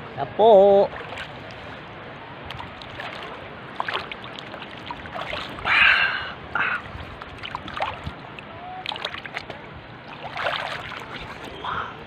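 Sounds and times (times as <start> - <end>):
loud water splashes: 0.8 - 11.6
water splashing and lapping: 0.8 - 12.0.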